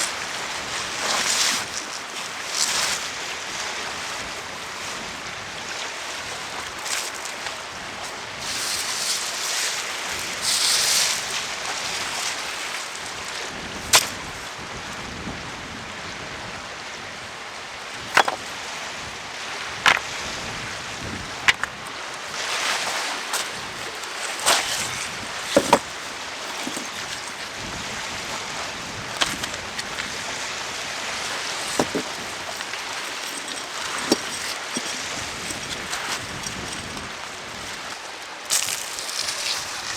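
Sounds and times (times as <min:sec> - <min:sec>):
wind and waves on shoreline: 0:00.0 - 0:39.9.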